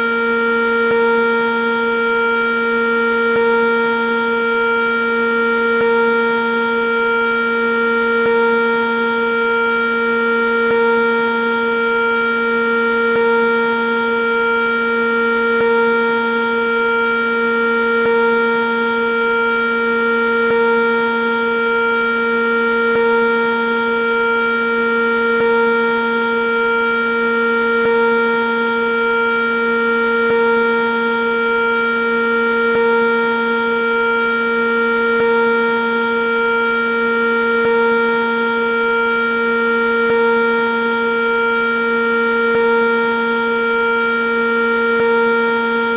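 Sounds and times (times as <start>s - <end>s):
civil defense siren: 0.0s - 45.9s.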